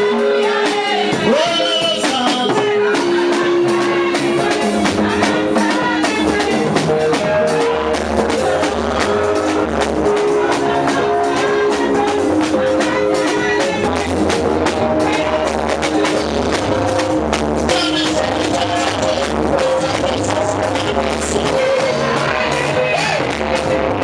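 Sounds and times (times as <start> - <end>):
upbeat gospel music: 0.0 - 24.0.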